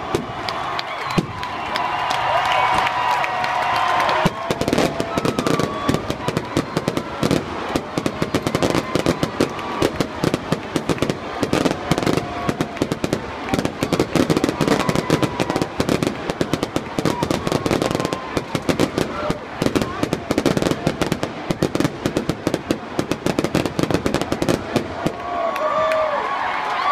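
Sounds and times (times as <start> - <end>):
fireworks bangs and crackles: 0.0 - 26.1.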